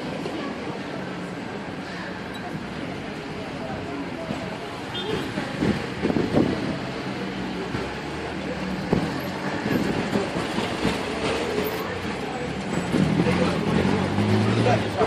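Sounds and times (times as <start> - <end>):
people talking: 0.0 - 15.0
vehicle engines passing: 0.0 - 15.0.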